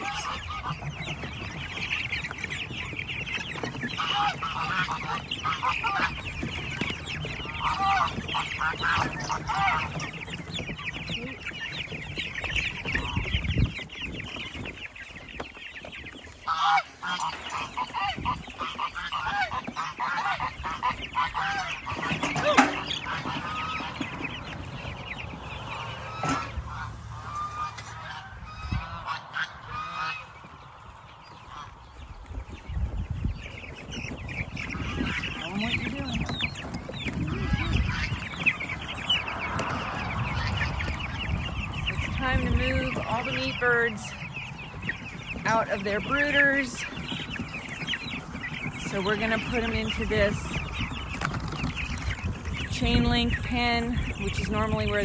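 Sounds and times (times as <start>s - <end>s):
chickens cheeping: 0.0s - 55.0s
geese honking: 0.0s - 55.0s.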